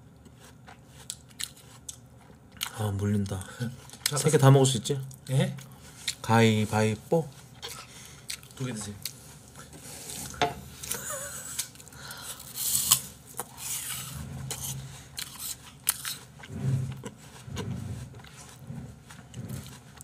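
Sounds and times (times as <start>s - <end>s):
apple crunching and chewing: 0.1s - 6.3s, 7.4s - 9.7s, 10.8s - 20.0s.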